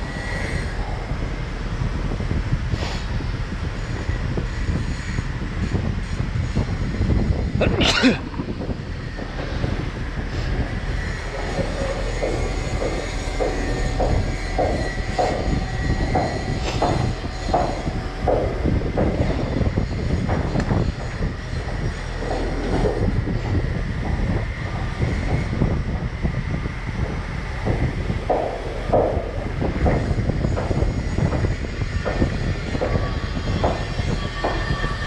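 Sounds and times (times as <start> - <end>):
heavy machinery noise: 0.0 - 35.0
wind rumbling on microphone: 0.0 - 35.0.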